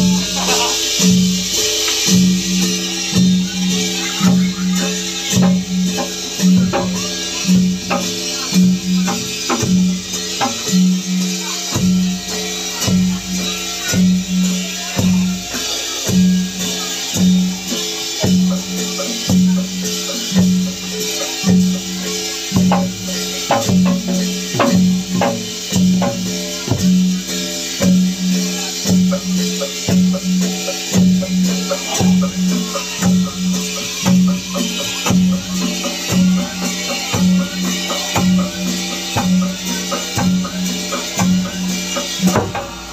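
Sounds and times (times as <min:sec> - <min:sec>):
gongs ringing: 0:00.0 - 0:42.9
large drum beating: 0:00.0 - 0:42.9
sharp percussion strikes: 0:00.0 - 0:42.9.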